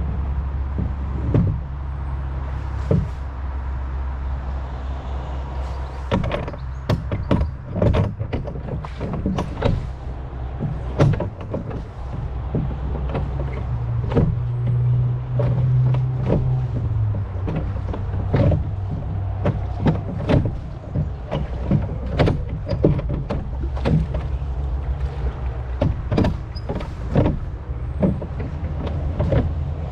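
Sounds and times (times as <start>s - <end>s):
oars knocking and creaking: 0.0s - 29.9s
water splashing: 5.4s - 29.9s.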